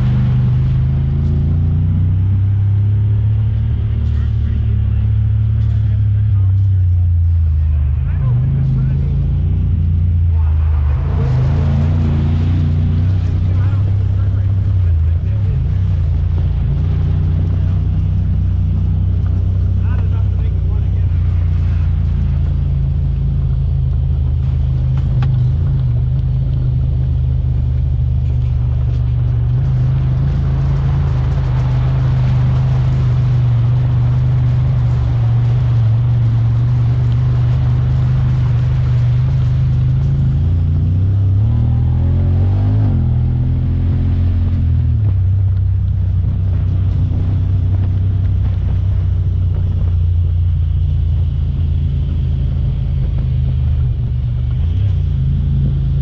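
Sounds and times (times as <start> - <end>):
vehicle engine running under load: 0.0 - 56.0.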